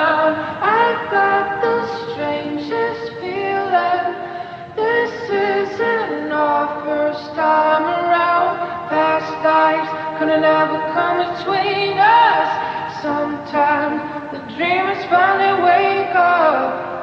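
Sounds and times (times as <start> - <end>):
song with sung vocals: 0.0 - 17.0.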